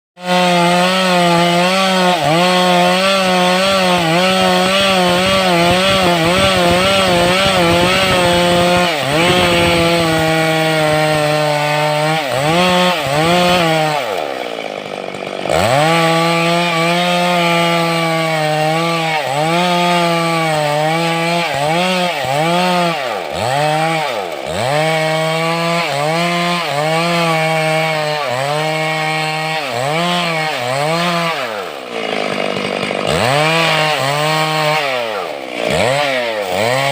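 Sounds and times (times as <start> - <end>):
chainsaw cutting wood: 0.2 - 36.9.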